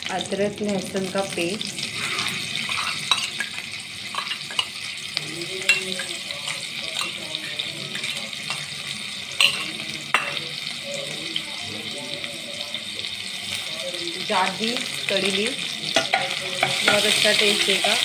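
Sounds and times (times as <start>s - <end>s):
hot oil sizzling in a pan: 0.0s - 18.0s.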